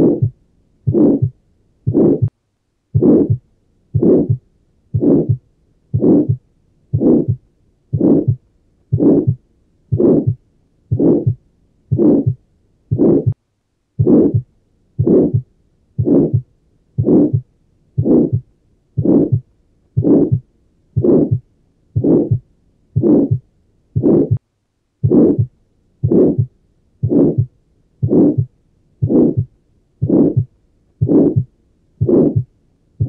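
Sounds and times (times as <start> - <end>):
heartbeat with murmur: 0.0 - 2.3, 2.9 - 13.4, 14.0 - 24.4, 25.0 - 32.5.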